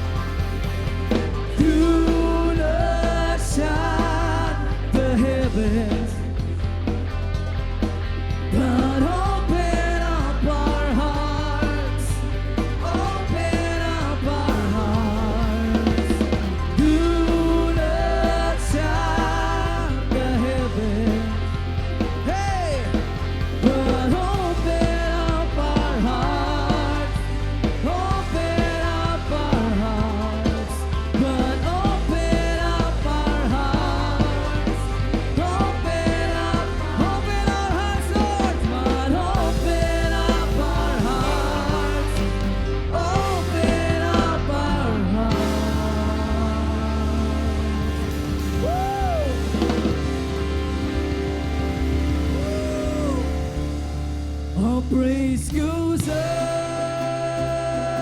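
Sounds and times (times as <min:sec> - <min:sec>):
rock band playing: 0:00.0 - 0:58.0
wavering lead melody: 0:07.0 - 0:55.1.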